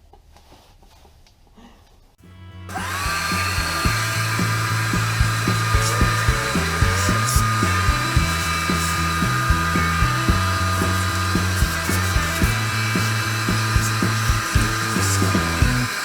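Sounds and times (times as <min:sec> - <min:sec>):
power tool motor whine: 0:02.3 - 0:16.0
background music with beat: 0:02.8 - 0:15.9.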